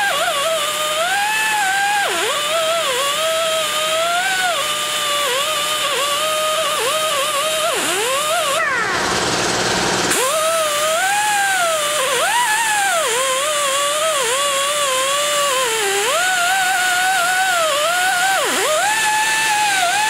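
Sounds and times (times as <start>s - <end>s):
die grinder whining: 0.0s - 20.0s.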